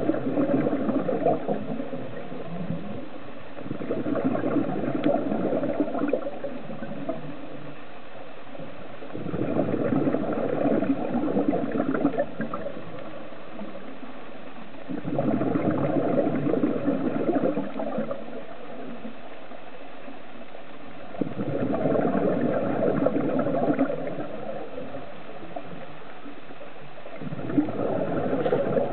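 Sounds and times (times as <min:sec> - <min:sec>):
exhaled breath bubbling underwater: 0:00.0 - 0:07.8, 0:09.0 - 0:14.0, 0:14.8 - 0:19.2, 0:21.1 - 0:25.8, 0:27.2 - 0:28.9
steady underwater hiss: 0:00.0 - 0:28.9.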